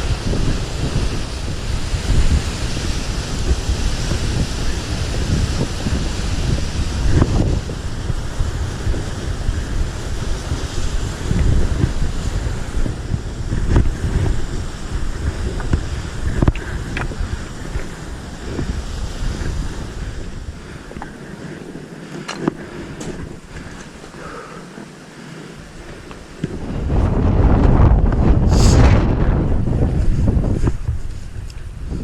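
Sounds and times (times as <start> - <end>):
wind gusting across microphone: 0.0 - 32.0.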